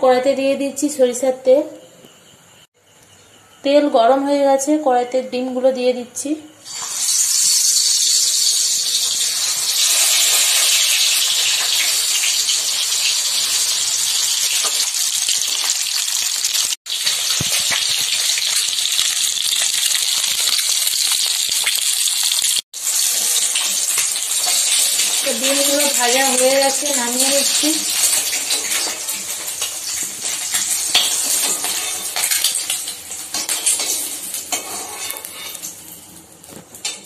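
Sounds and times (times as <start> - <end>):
eggs frying in hot oil: 6.6 - 36.6
crackling oil spatters: 6.6 - 37.0.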